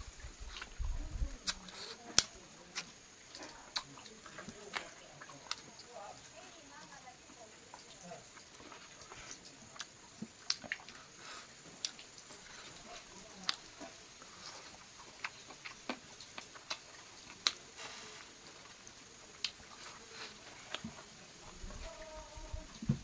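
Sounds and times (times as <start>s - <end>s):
person chewing: 0.0s - 5.8s, 8.4s - 22.9s.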